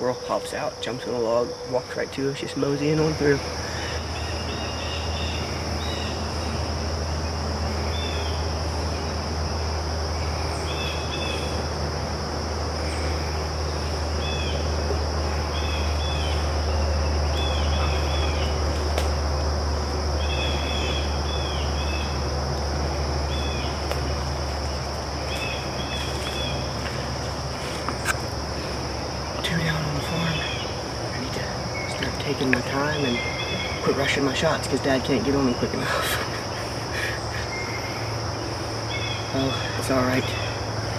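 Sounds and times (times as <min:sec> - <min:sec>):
crickets droning: 0:00.0 - 0:40.9
low steady rumble: 0:00.0 - 0:40.9.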